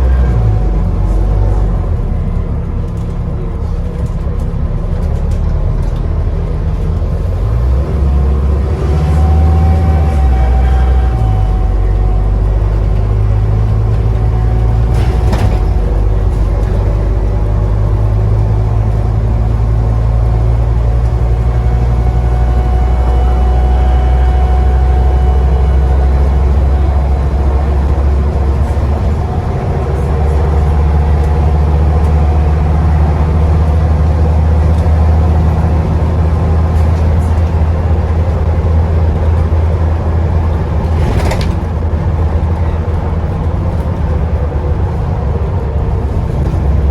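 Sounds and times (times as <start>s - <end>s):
bus diesel engine droning: 0.0s - 46.9s.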